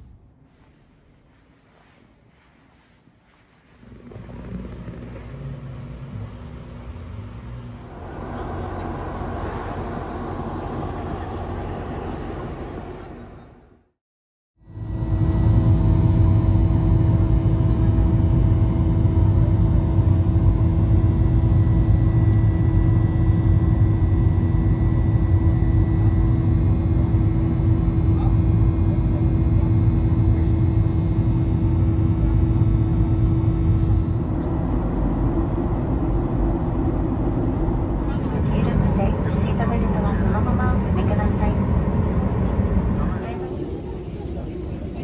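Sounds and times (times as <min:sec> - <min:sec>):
constant hum: 0:00.0 - 0:13.9, 0:14.6 - 0:45.0
vehicle engine rumble: 0:03.7 - 0:13.9, 0:14.8 - 0:45.0.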